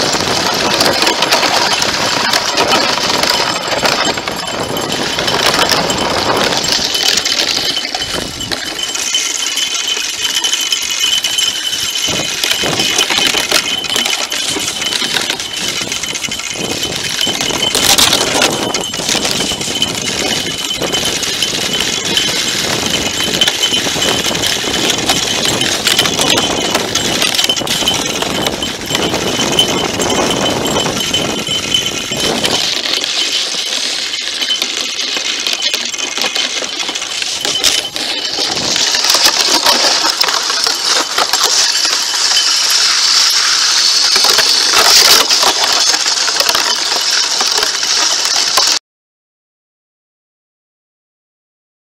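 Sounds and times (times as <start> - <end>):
sled runners scraping over ice: 0.0 - 48.8.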